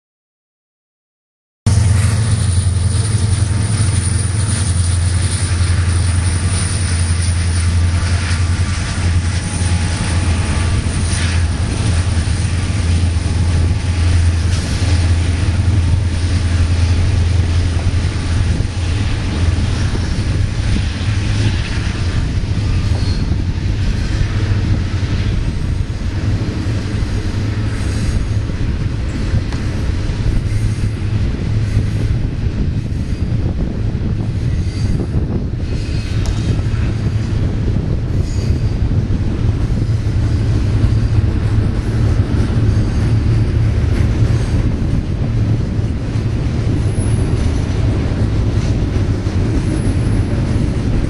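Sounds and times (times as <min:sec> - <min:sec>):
diesel locomotives droning: 0:01.7 - 0:51.0.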